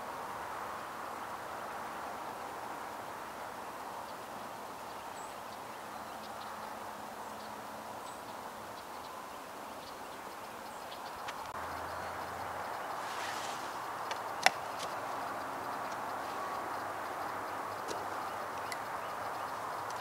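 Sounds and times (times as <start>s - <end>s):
outdoor background hiss: 0.0s - 20.0s
faint bird chirps: 2.9s - 20.0s.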